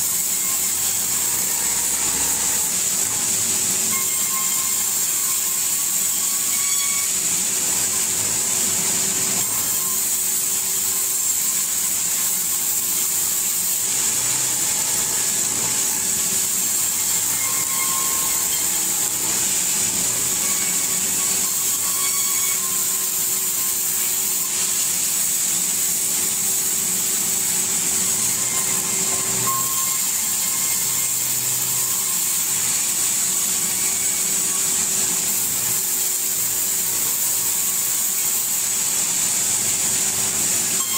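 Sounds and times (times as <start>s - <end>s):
sawmill saw cutting wood: 0.0s - 40.9s.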